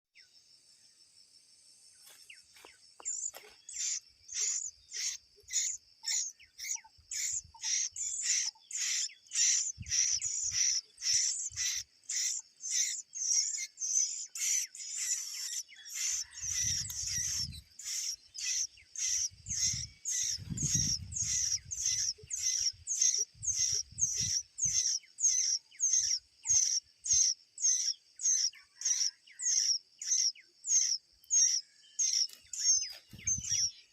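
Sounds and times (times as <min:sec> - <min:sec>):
bird chirping: 0:01.8 - 0:33.9.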